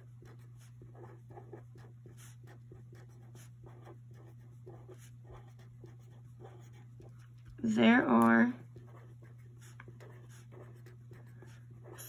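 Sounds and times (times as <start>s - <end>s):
marker pen scratching on paper: 0.0s - 7.6s, 8.6s - 12.0s
steady low hum: 0.0s - 12.0s.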